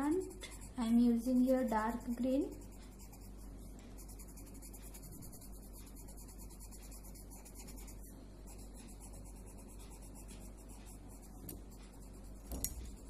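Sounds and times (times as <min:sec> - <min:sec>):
pen scratching on paper: 0:00.0 - 0:13.0.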